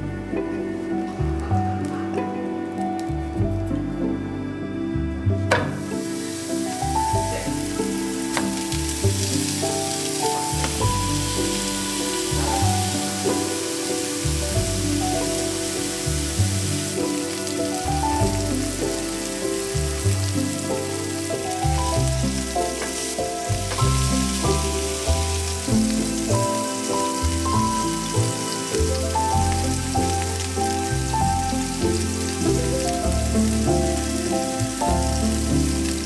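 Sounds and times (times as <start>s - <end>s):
background music with bass: 0.0s - 36.0s
burgers sizzling in pan: 5.6s - 36.0s.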